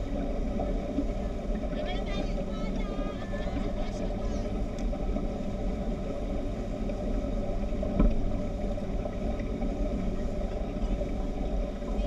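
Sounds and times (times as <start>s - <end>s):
speedboat engine running: 0.0s - 12.0s.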